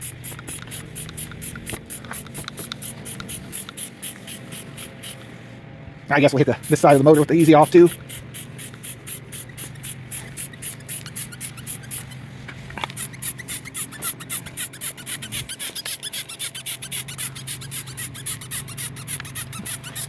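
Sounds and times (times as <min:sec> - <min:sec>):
trigger sprayer hissing: 0:00.0 - 0:05.4, 0:06.2 - 0:20.0.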